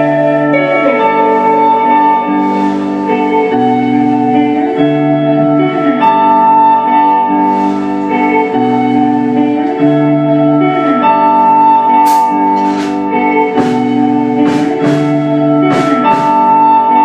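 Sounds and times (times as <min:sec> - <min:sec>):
ambient electric guitar with delay: 0:00.0 - 0:17.0.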